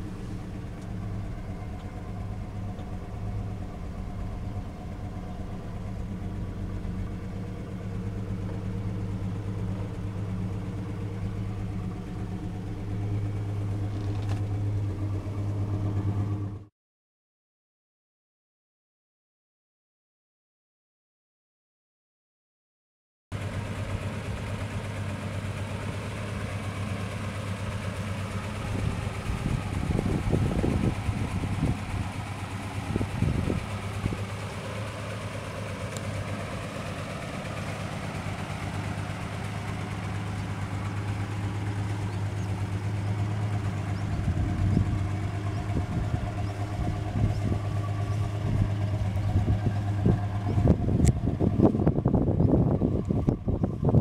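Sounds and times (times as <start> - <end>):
car engine idling: 0.0 - 16.7, 23.3 - 54.0.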